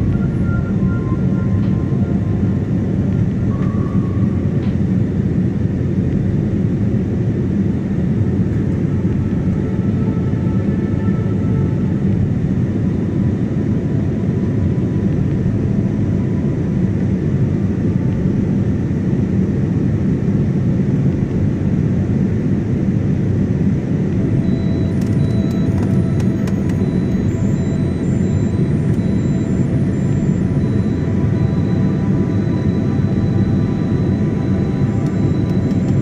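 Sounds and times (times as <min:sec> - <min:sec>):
airliner cabin engine rush: 0:00.0 - 0:36.0.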